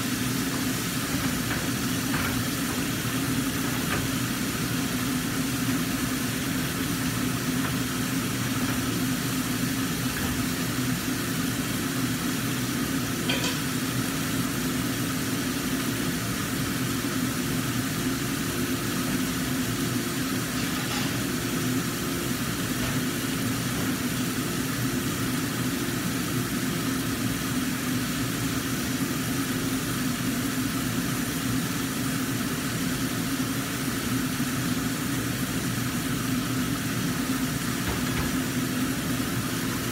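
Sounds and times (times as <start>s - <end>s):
fish sizzling in a wok: 0.0s - 39.9s
range hood fan humming: 0.0s - 39.9s.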